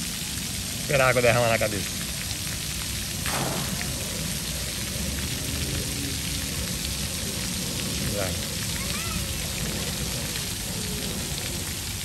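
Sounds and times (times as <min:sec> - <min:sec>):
fountain jets spraying water: 0:00.0 - 0:12.0.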